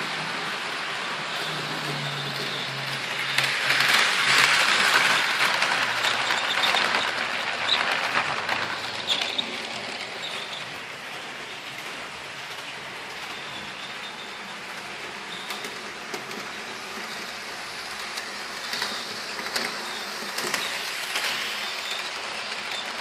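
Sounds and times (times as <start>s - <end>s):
model train rattling on track: 0.0s - 23.0s.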